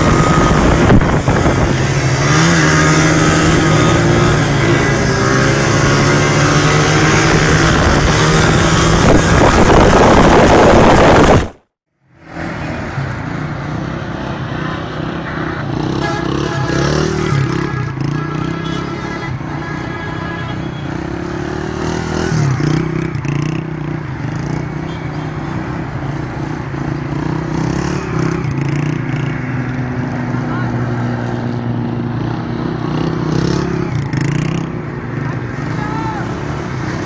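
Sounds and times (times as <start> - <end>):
small motorcycle engines revving: 0.0 - 11.4, 15.0 - 19.4, 20.6 - 37.0.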